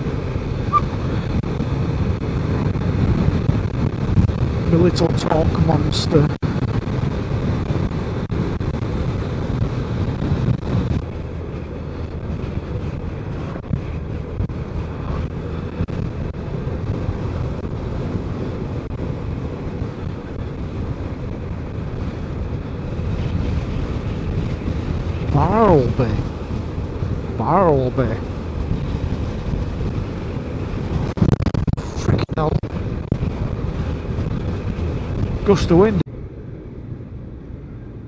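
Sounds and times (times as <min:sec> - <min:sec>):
motorcycle engine and road hum: 0:00.0 - 0:38.0
wind rush over microphone: 0:00.0 - 0:38.0.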